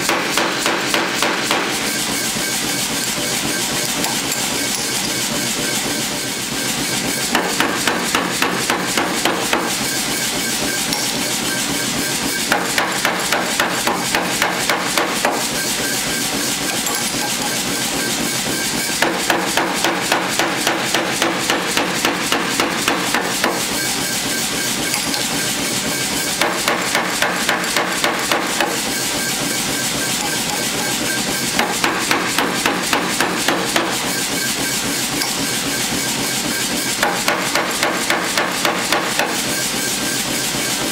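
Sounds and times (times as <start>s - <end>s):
power hammer striking steel: 0.0s - 6.2s, 7.2s - 36.0s, 36.9s - 39.4s
machine running steadily: 0.0s - 40.9s.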